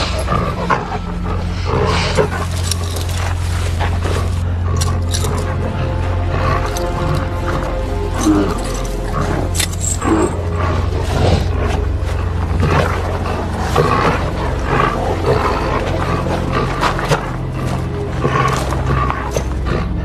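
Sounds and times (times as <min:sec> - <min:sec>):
animal-like growling and snarling: 0:00.0 - 0:20.0
low steady drone: 0:00.0 - 0:20.0.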